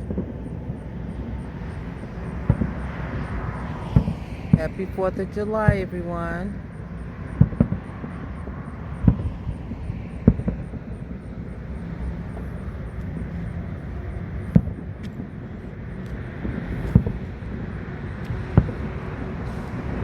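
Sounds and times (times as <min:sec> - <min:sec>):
distant fireworks bangs: 0:00.0 - 0:20.0
steady low rumble: 0:00.0 - 0:20.0.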